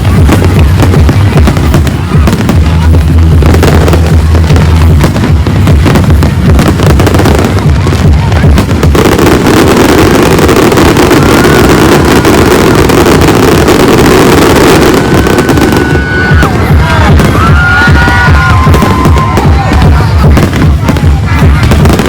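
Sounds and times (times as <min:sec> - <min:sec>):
fireworks bangs and crackling: 0:00.0 - 0:22.0
fireworks whistling: 0:00.0 - 0:22.0
music playing: 0:00.0 - 0:22.0.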